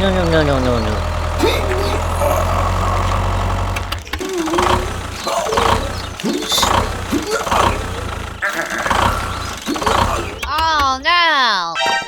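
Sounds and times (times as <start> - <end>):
engine idling: 0.0 - 11.4.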